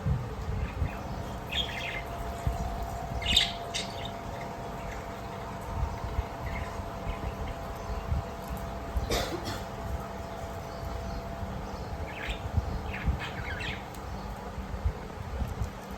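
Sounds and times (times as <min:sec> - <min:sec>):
parakeets chirping: 0:00.6 - 0:14.5.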